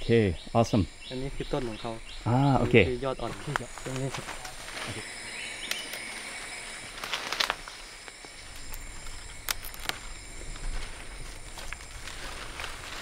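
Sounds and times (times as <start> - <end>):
fern fronds rustling: 0.0 - 13.0
high-pitched insect drone: 0.0 - 13.0.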